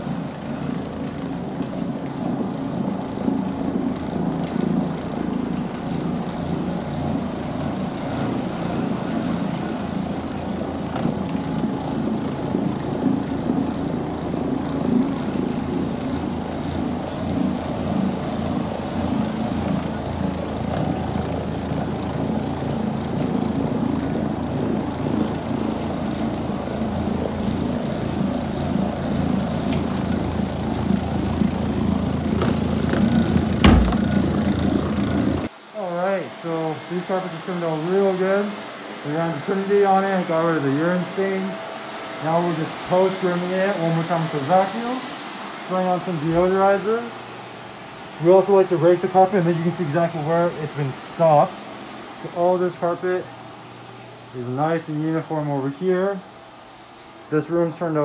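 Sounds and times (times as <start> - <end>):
rotary floor machine humming: 0.0 - 58.0.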